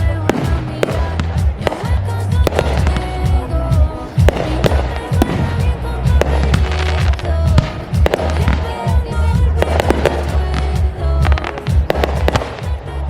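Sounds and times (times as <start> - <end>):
fireworks bangs and crackles: 0.0 - 13.0
music with heavy bass: 0.0 - 13.0.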